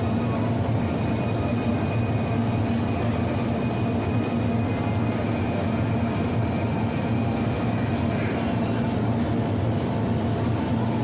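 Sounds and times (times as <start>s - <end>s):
constant low hum: 0.0s - 11.0s
diffuse store background noise: 0.0s - 11.0s.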